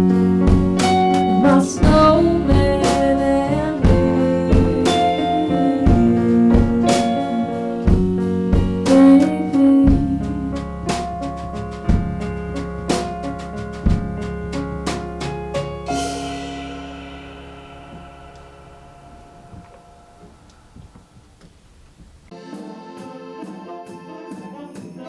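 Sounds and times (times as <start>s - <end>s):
drum strikes: 0.0s - 23.1s
jazz combo playing: 0.0s - 24.8s.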